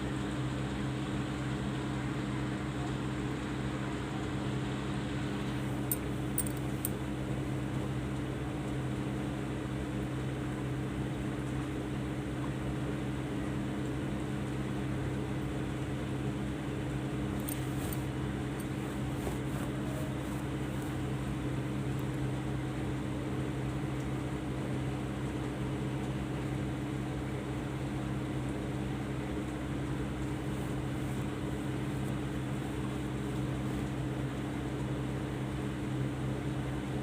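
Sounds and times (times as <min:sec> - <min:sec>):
machine hum with hiss: 0:00.0 - 0:37.0.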